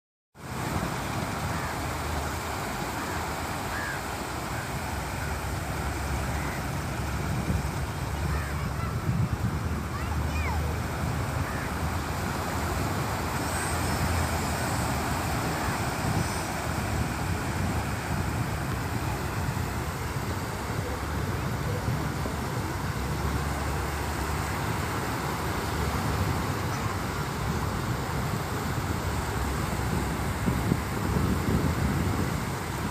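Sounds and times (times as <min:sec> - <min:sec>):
low wind rumble: 0:00.4 - 0:32.9
surf washing: 0:00.4 - 0:32.9.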